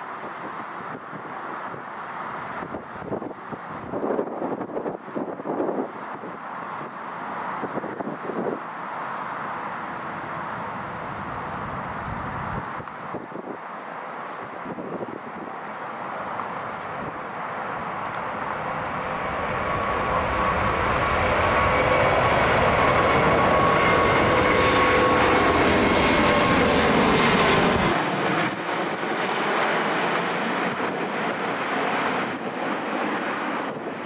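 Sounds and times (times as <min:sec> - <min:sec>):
jet airliner roaring overhead: 0:00.0 - 0:34.0.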